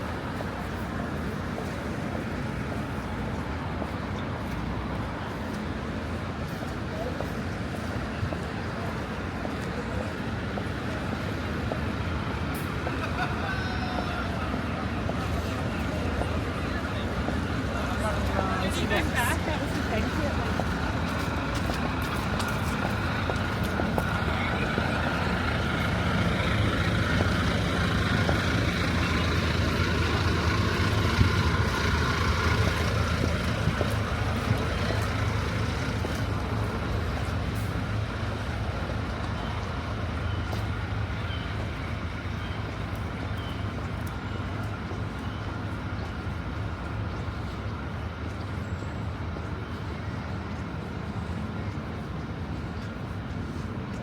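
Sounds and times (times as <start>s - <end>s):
heavy vehicle engine running: 0.0s - 54.0s
traffic noise: 0.0s - 54.0s.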